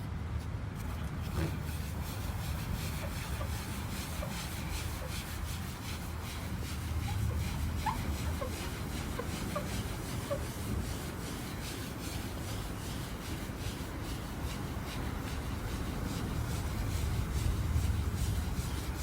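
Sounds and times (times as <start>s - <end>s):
pad rubbing car paint: 0.4s - 19.0s.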